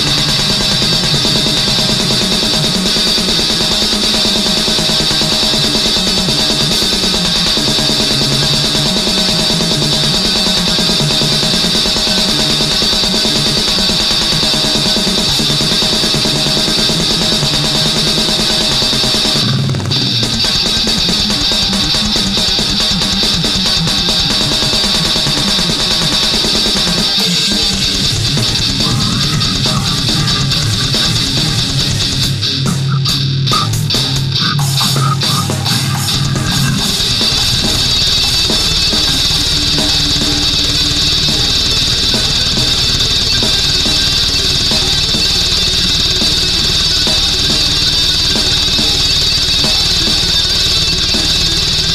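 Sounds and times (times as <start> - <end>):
distorted guitar: 0.0 - 51.9
fast drumming with cymbals: 0.0 - 51.9
heavy metal band playing: 0.0 - 51.9.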